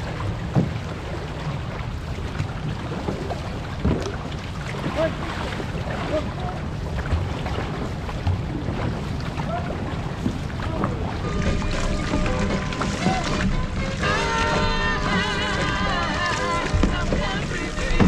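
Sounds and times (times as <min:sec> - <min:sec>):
paddles catching water: 0:00.0 - 0:18.0
water rushing along hull: 0:00.0 - 0:18.0.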